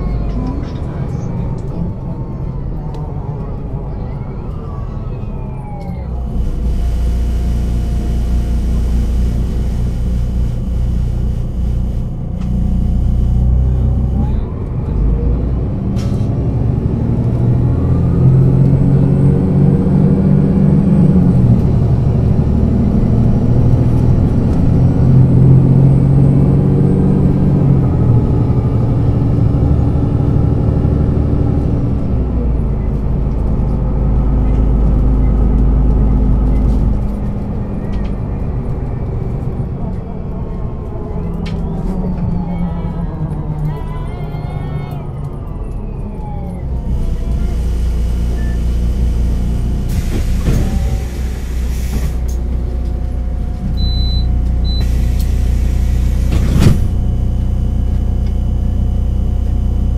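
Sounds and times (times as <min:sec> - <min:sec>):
bus engine: 0:00.0 - 0:59.9.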